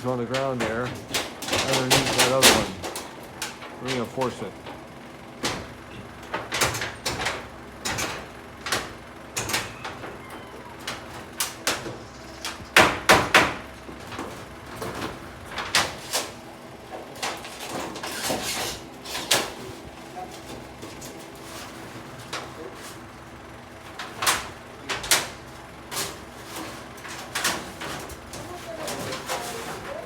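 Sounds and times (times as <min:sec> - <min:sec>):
knocks on corrugated metal roof: 0:00.0 - 0:30.0.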